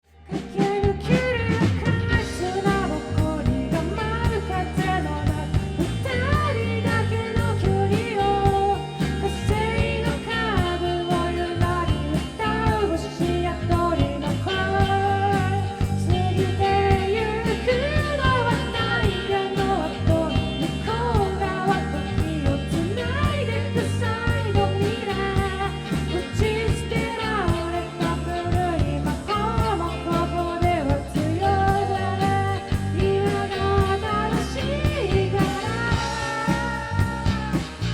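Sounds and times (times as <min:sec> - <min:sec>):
guitar: 0:00.0 - 0:37.9
person singing: 0:00.3 - 0:37.9
steady drum beat: 0:00.3 - 0:37.9.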